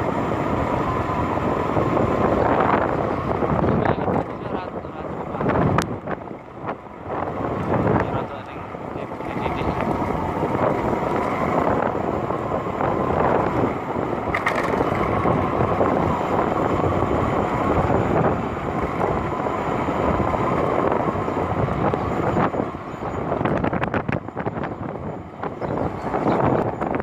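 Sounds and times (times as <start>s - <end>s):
vehicle engine running: 0.0s - 27.0s
wind buffeting microphone: 0.0s - 27.0s.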